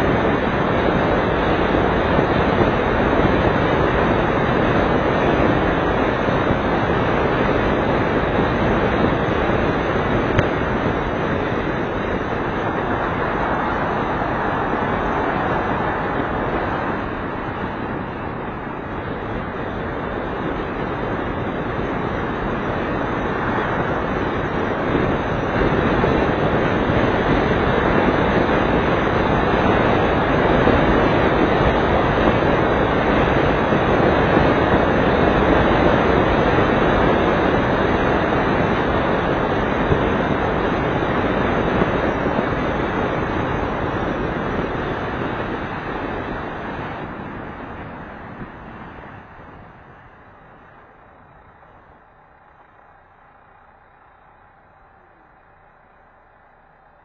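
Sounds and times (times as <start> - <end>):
tyres hissing on wet road: 0.0 - 57.0.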